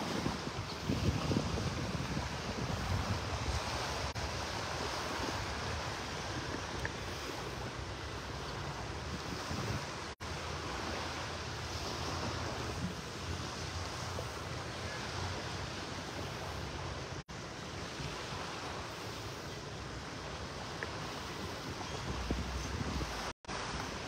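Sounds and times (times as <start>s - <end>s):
wind buffeting microphone: 0.0s - 17.2s, 17.8s - 24.0s
surf on the beach: 0.0s - 24.0s.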